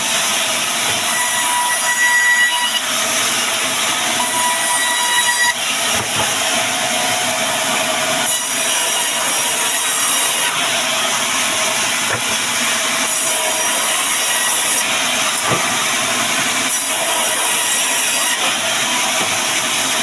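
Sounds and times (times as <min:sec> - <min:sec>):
band saw cutting timber: 0:00.0 - 0:20.0.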